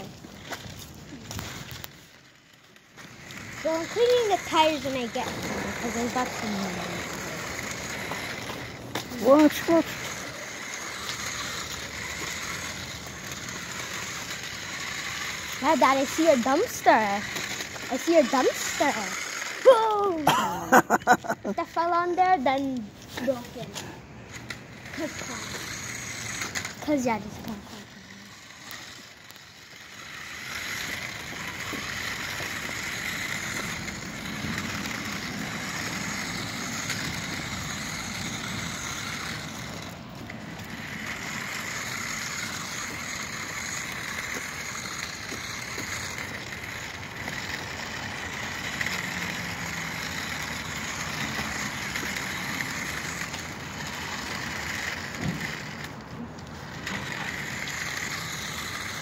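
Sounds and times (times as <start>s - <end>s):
plastic tyres rolling on grit: 0.0s - 20.0s, 24.3s - 59.0s
toy car motor whirring: 0.0s - 59.0s.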